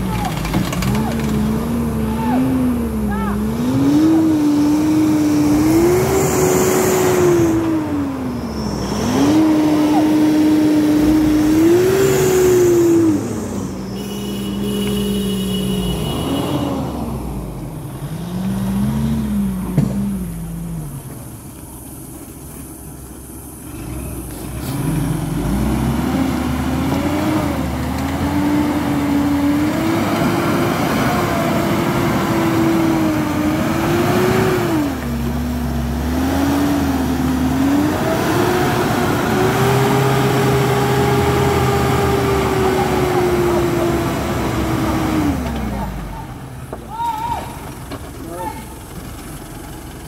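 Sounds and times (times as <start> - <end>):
pickup truck engine revving: 0.0 - 21.1, 23.6 - 46.8.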